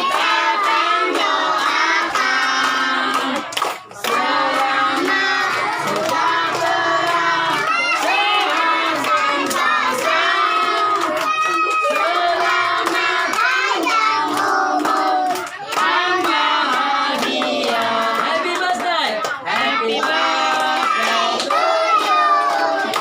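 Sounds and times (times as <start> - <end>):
children singing: 0.0 - 18.1, 19.4 - 23.0
hands clapping: 0.0 - 23.0.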